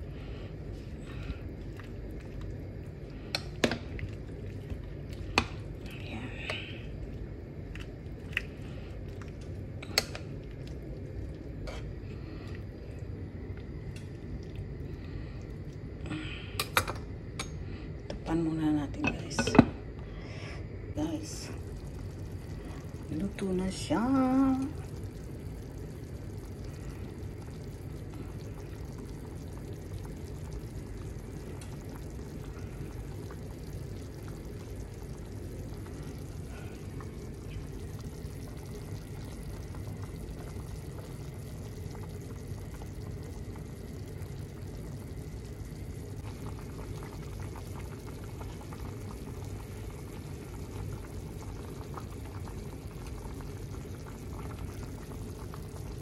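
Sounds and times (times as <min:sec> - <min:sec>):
soup bubbling in a pot: 0:00.0 - 0:56.0.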